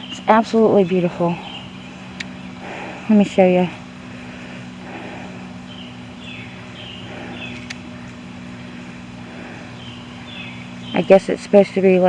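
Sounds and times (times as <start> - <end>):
bird chirping: 0.0 - 12.0
outdoor background noise: 0.0 - 12.0
steady low hum: 0.0 - 12.0.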